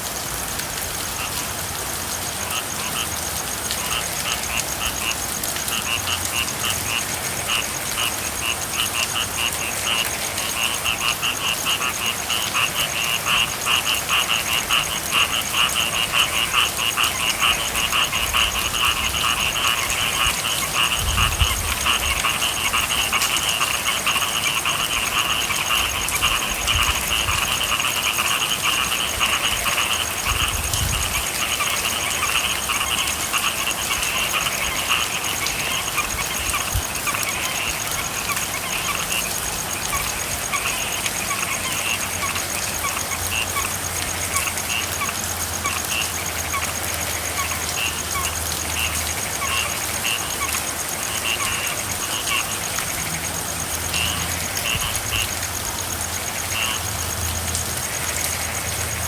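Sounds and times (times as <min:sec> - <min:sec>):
frogs calling: 0:00.0 - 0:59.0
rain falling: 0:00.0 - 0:59.0.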